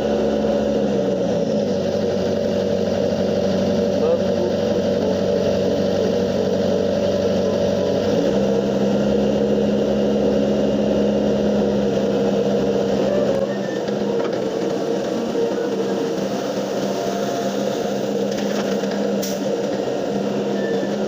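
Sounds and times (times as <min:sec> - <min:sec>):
excavator diesel engine under load: 0:00.0 - 0:21.0.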